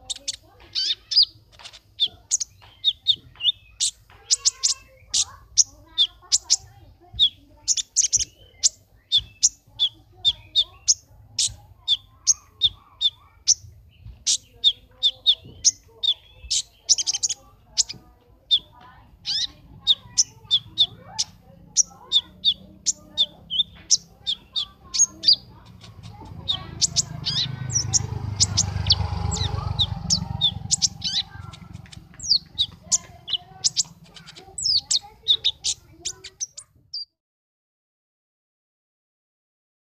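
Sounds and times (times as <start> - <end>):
bird chirping rapidly: 0.0 - 37.1.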